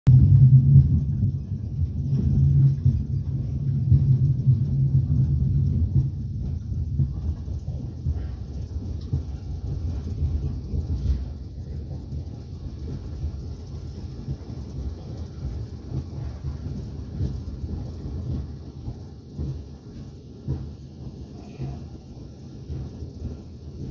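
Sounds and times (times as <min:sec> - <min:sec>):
train wheels rumbling on rails: 0:00.1 - 0:23.9.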